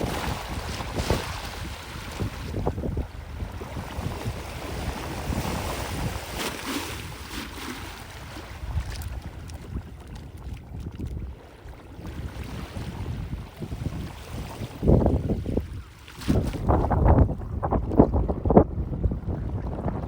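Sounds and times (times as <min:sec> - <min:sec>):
small waves washing: 0:00.0 - 0:17.2
wind buffeting microphone: 0:00.0 - 0:20.0.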